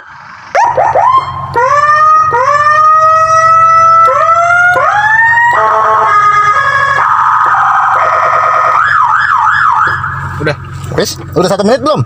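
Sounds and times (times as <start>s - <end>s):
electronic siren cycling tones: 0.0s - 10.6s.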